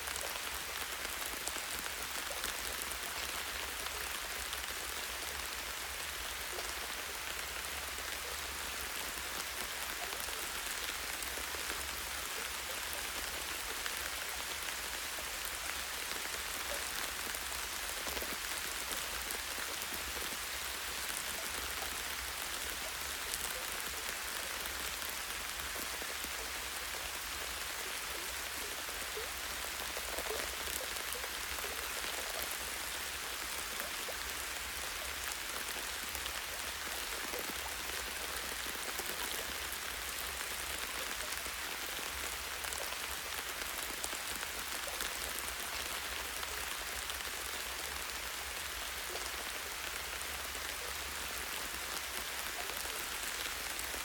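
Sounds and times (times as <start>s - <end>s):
light rain on leaves: 0.0s - 54.0s.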